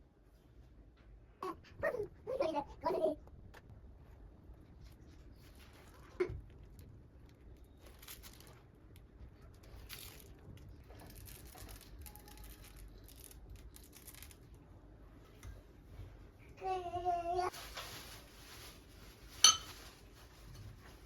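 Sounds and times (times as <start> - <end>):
rustling and crinkling: 3.4 - 21.0.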